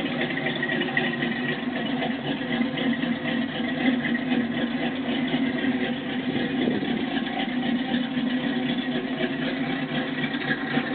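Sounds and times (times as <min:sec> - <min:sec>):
engine idling: 0:00.0 - 0:10.9.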